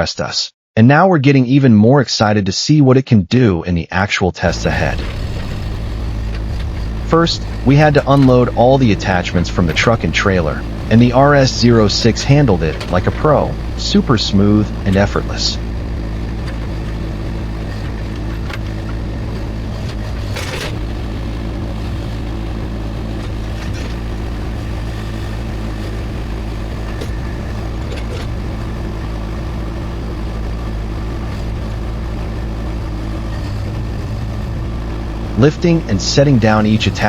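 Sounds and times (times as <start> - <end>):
loader engine running: 4.5 - 37.0.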